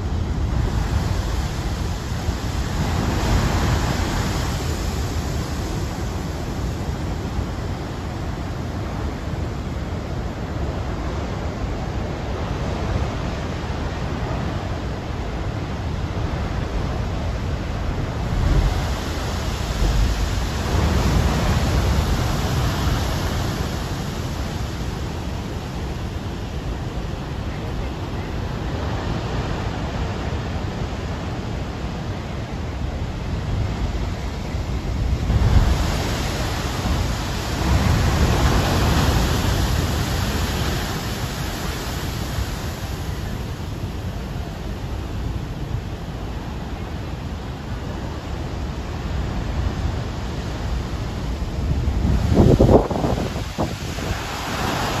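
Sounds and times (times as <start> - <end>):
storm surf crashing on rocks: 0.0 - 55.0.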